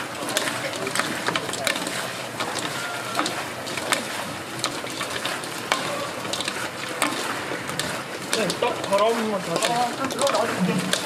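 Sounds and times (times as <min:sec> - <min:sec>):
frying hiss: 0:00.0 - 0:11.0
metal utensils clacking: 0:00.0 - 0:11.0.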